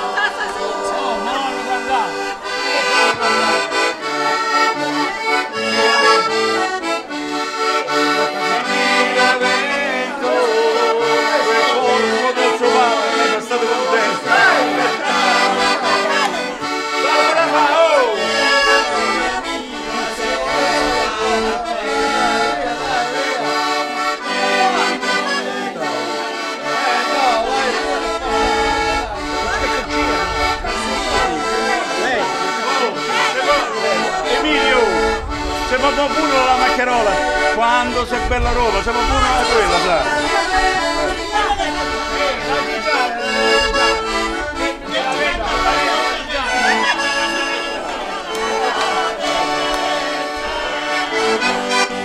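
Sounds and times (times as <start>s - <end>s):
accordion playing: 0.0s - 52.0s.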